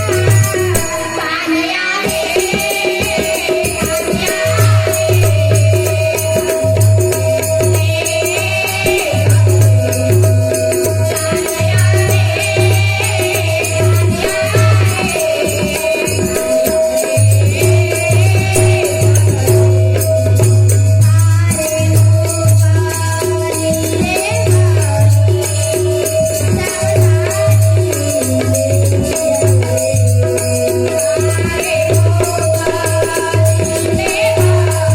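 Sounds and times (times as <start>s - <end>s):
jingling hand percussion: 0.0s - 34.9s.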